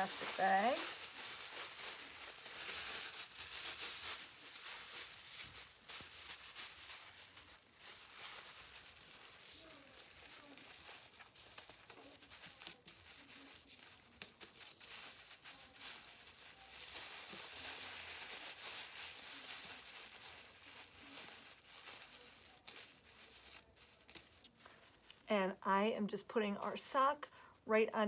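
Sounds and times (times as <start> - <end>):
plastic bag crinkling: 0.0 - 25.3.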